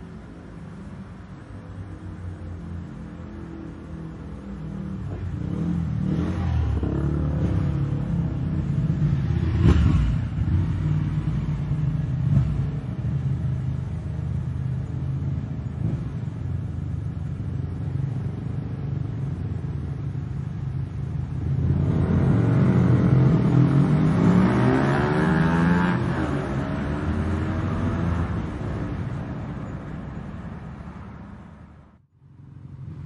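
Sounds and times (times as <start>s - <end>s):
motorcycle engines revving: 2.8s - 30.9s.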